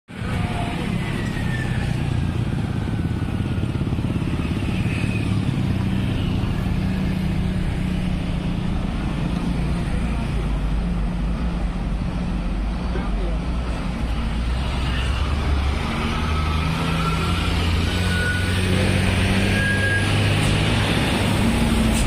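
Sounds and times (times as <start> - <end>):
heavy truck engine rumbling: 0.1 - 22.0
motorcycle engines: 0.1 - 22.0.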